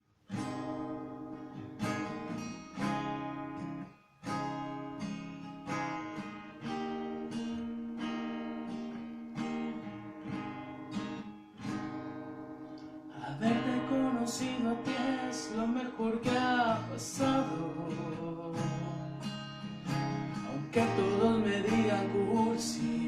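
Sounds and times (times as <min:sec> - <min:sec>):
acoustic guitar chords: 0:00.2 - 0:23.0.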